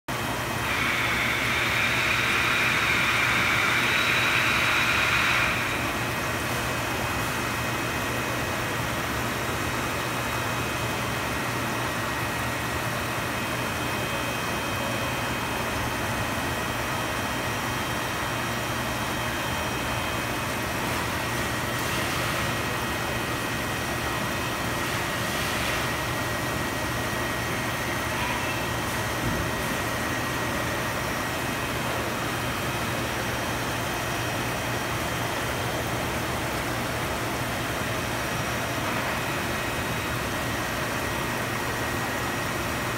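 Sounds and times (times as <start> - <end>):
aquarium pump humming: 0.1 - 42.9.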